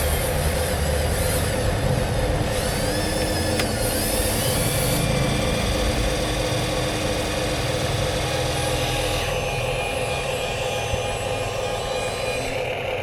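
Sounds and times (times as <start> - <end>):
simulated diesel engine rumble: 0.0 - 11.8
electric motor whine: 0.0 - 13.0.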